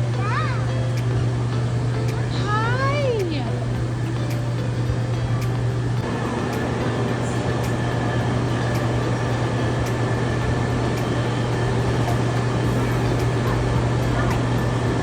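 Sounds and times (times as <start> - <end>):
low motor drone: 0.0 - 15.0.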